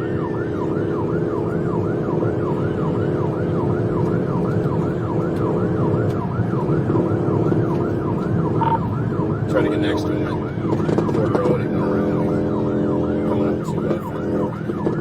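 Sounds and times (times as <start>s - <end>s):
car engine and tyres: 0.0s - 15.0s
police siren yelping: 0.0s - 15.0s.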